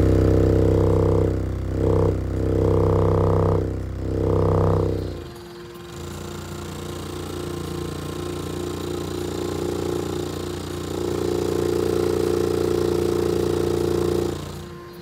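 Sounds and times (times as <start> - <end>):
subwoofer droning low hum: 0.0 - 5.3, 7.2 - 14.7.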